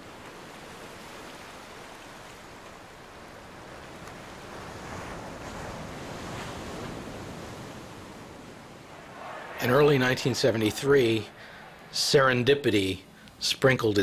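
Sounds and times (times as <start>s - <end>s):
ocean surf breaking on shore: 0.0s - 14.0s.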